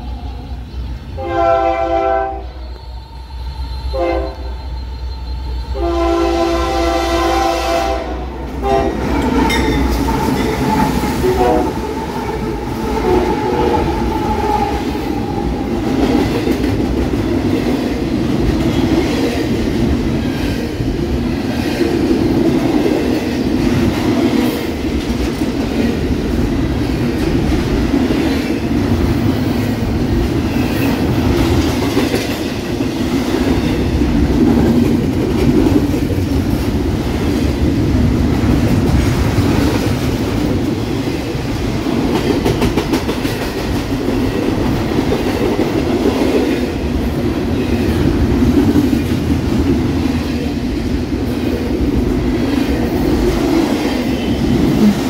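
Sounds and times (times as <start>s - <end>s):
diesel locomotives passing: 0.0s - 55.0s.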